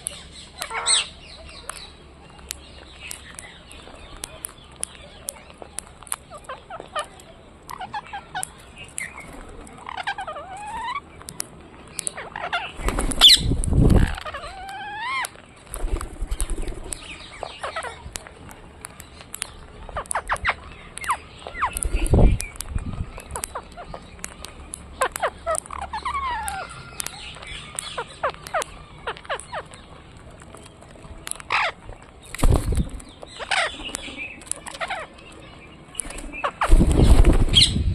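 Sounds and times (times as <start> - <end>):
bird chirping: 0.0 - 37.9.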